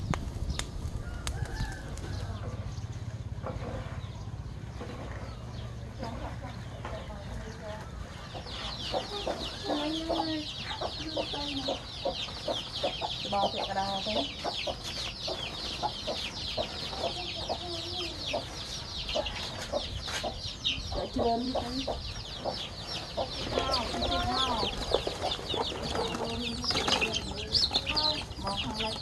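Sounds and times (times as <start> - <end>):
chicks peeping: 0.0 - 29.0
chickens clucking: 1.1 - 29.0.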